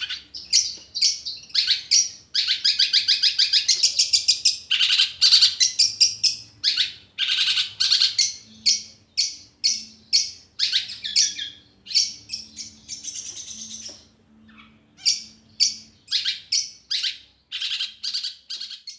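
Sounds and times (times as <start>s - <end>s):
shrike harsh raspy calls: 0.0s - 13.8s, 14.5s - 18.9s.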